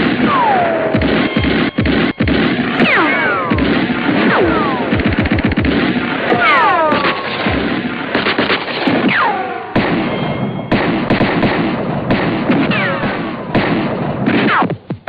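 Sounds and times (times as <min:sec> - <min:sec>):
cartoon explosion blasts: 0:00.0 - 0:14.9
cartoon gunfire: 0:00.0 - 0:15.0.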